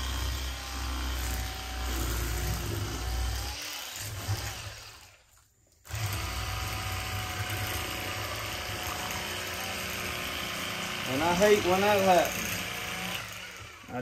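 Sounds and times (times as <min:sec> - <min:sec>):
electric fillet knife buzzing: 0:00.0 - 0:05.2, 0:05.9 - 0:14.0.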